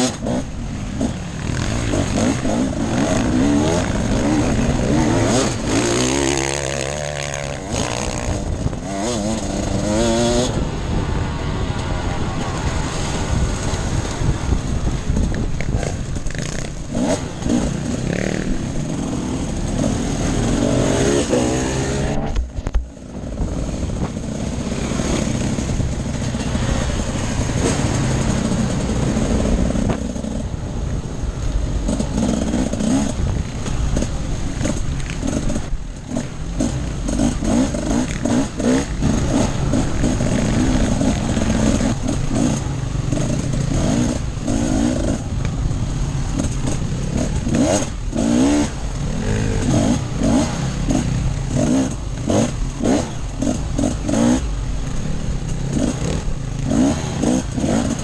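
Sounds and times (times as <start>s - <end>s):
dirt bike engine revving: 0.0s - 10.7s, 13.3s - 22.5s, 23.3s - 30.4s, 31.8s - 58.0s.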